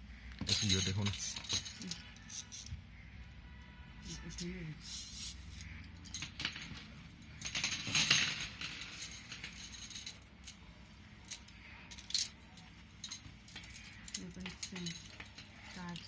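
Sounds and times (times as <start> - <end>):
metal straws clinking and rattling: 0.4 - 2.7, 4.2 - 16.0.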